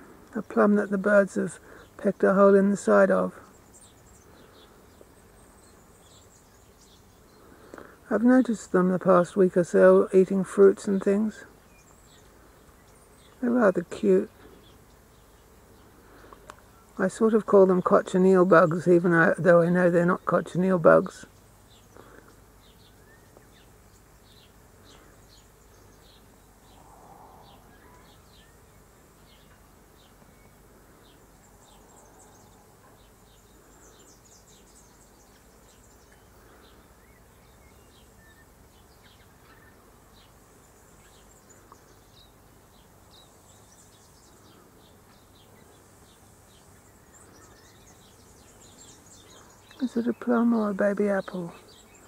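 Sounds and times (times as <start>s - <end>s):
low background hiss: 0.0s - 52.0s.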